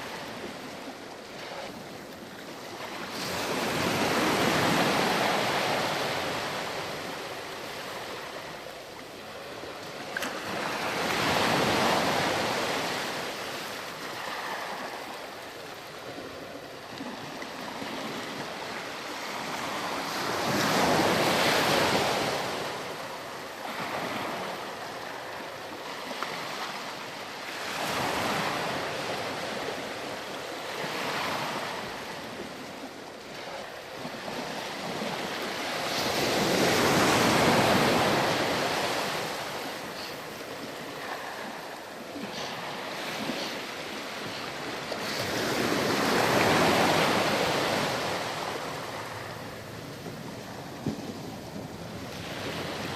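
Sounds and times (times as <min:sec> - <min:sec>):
ocean waves on sandy beach: 0:00.0 - 0:52.9.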